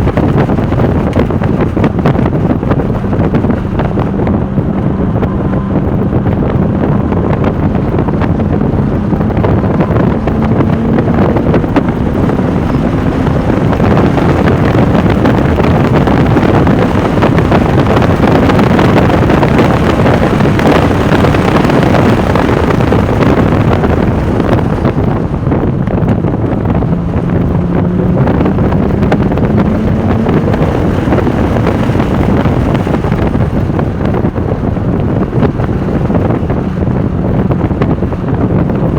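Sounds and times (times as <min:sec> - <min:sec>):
car engine accelerating: 0:00.0 - 0:38.9
wind noise on microphone: 0:00.0 - 0:38.9.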